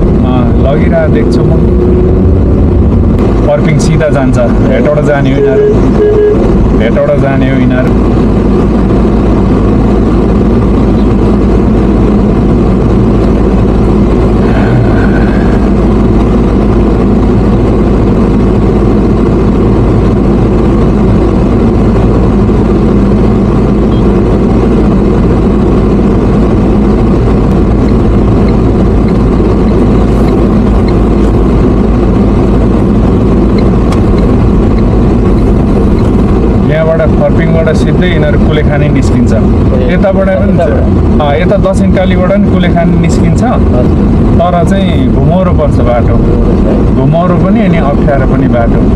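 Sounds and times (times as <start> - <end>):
road noise: 0.0 - 48.9
vehicle engine rumble: 0.0 - 48.9.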